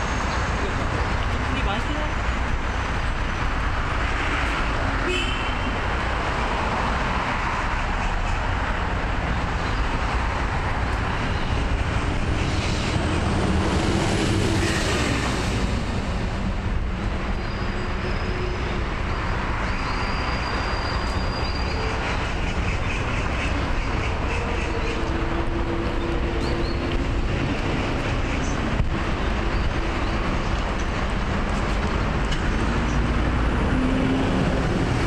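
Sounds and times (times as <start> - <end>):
bus passing close by: 0.0 - 35.0
passing cars: 0.0 - 35.0.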